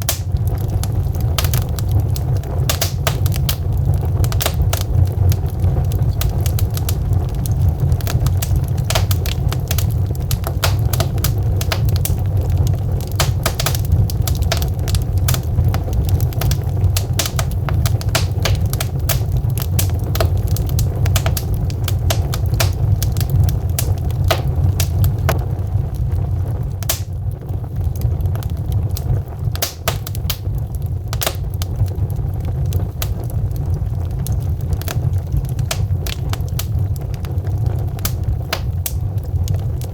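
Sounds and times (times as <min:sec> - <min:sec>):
burning logs crackling and popping: 0:00.0 - 0:39.9
low rumble of flames: 0:00.0 - 0:39.9.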